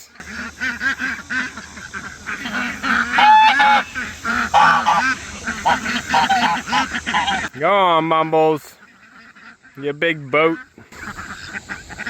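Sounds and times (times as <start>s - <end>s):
ducks quacking and honking: 0.0s - 12.0s.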